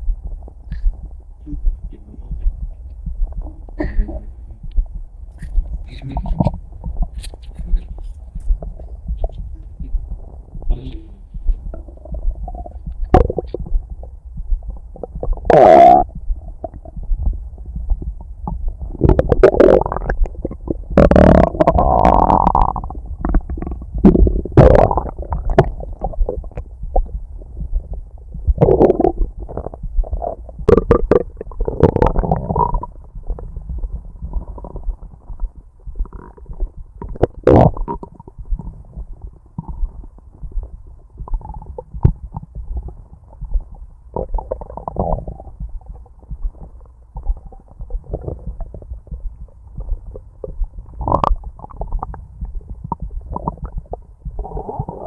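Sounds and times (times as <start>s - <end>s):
stomach growling and gurgling: 0.0s - 55.0s.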